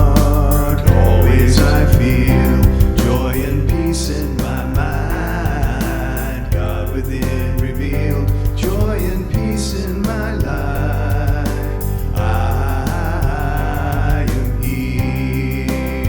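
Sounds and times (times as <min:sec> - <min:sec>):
devotional song with voice and bass: 0:00.0 - 0:16.0
light percussion: 0:00.0 - 0:16.0.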